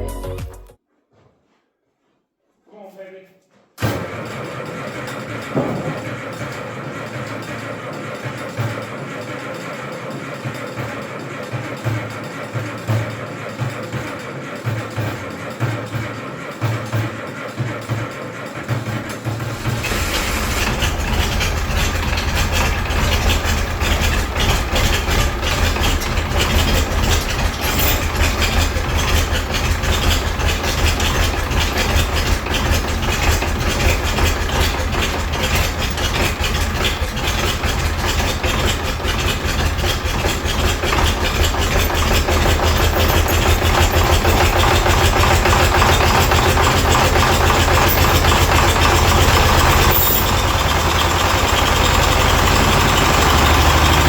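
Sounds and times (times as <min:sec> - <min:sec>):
tractor engine running: 0:04.0 - 0:54.0.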